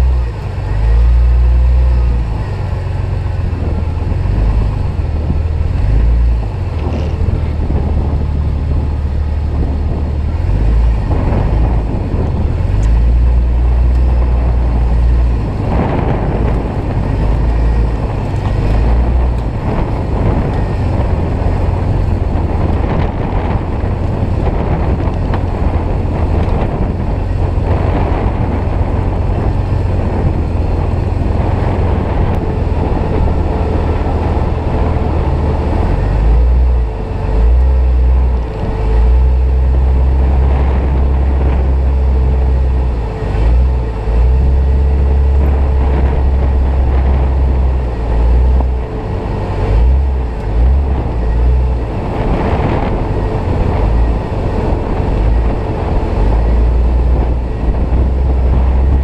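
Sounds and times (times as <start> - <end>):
off-road vehicle engine rumbling: 0.0 - 59.0.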